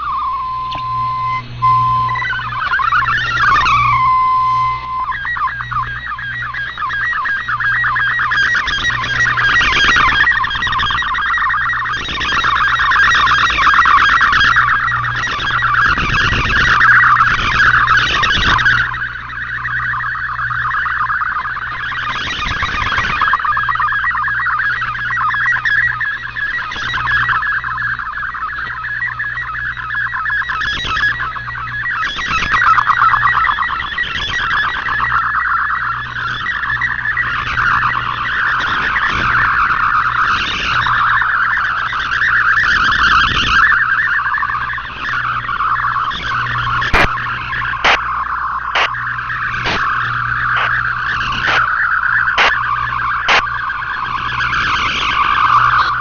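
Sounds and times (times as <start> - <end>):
radio hiss: 0.0 - 56.0
rapidly shifting radio data tones: 0.0 - 56.0
sharp static click: 0.0 - 56.0
steady low hum: 0.0 - 56.0.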